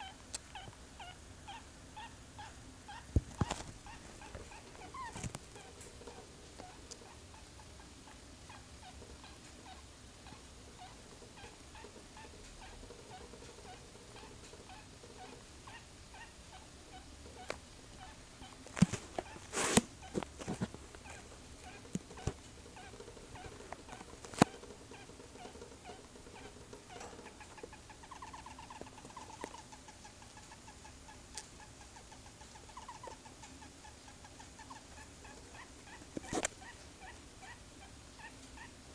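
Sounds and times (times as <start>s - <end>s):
pet animal small repeated noises: 0.0s - 38.9s.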